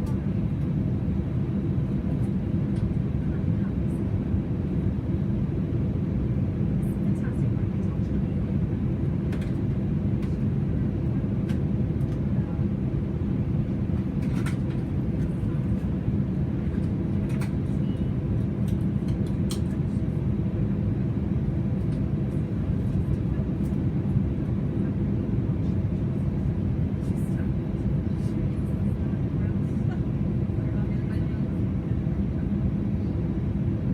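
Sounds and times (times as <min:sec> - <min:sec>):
aircraft engine drone in cabin: 0:00.0 - 0:33.9.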